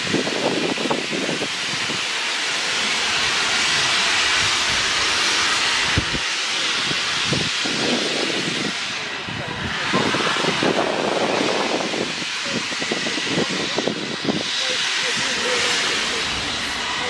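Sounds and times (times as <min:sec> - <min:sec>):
locomotive steam hissing: 0:00.0 - 0:17.0.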